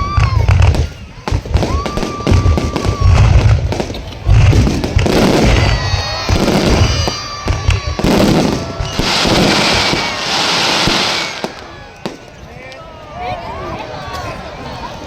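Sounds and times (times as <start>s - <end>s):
firework crackling: 0.0s - 12.4s
firework whistling: 0.0s - 12.4s
firework shells booming: 0.2s - 12.3s.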